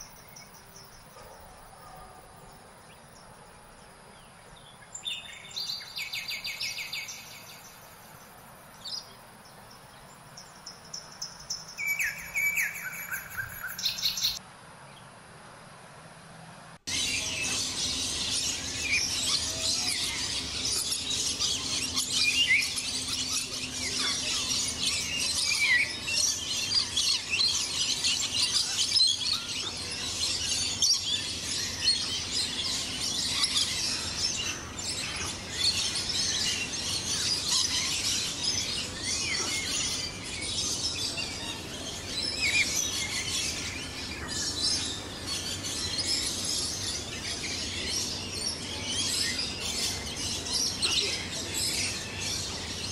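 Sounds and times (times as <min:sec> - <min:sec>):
birds chirping and twittering: 0:00.0 - 0:14.4, 0:16.9 - 0:52.9.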